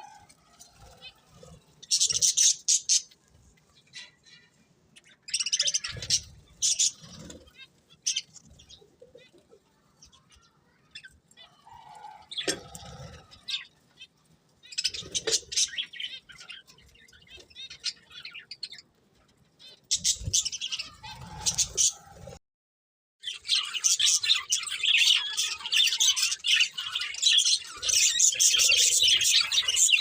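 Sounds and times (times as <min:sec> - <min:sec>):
budgerigars chirping and chattering: 0:00.0 - 0:18.9, 0:19.6 - 0:22.3, 0:23.2 - 0:30.0.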